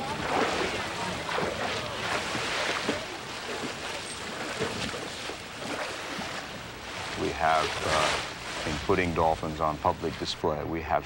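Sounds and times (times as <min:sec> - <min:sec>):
water splashing and sloshing: 0:00.0 - 0:10.7
steady rushing water: 0:00.0 - 0:11.0.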